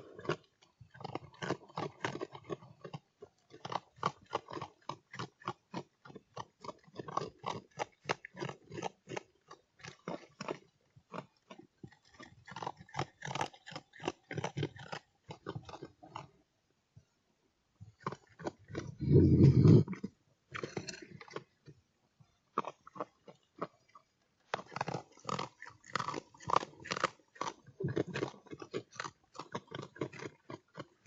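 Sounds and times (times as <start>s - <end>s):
animal chewing and crunching: 0.0s - 16.5s, 17.7s - 31.0s.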